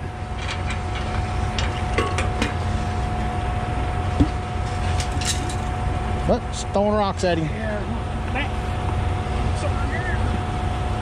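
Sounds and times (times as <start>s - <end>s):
pump truck rumble and whine: 0.0s - 11.0s.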